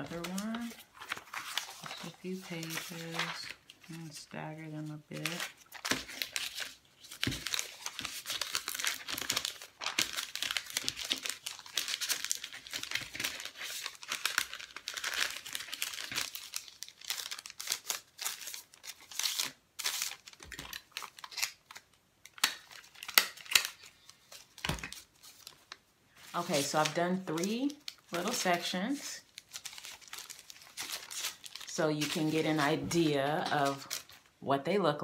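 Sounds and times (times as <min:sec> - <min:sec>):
paper rustling and crinkling: 0:00.0 - 0:34.3.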